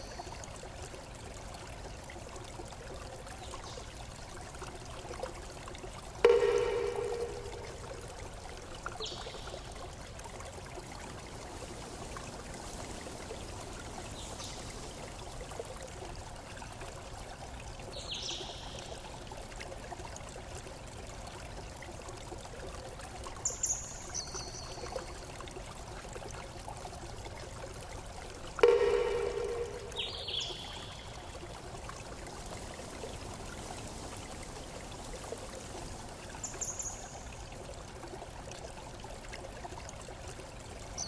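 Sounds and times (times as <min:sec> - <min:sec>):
water running steadily: 0:00.0 - 0:41.0.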